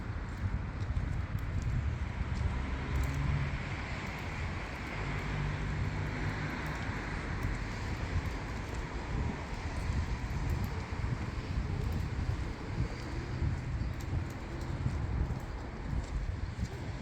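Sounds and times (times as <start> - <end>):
vehicle engine and road noise: 0.0 - 17.0
faint engine hum: 0.2 - 17.0.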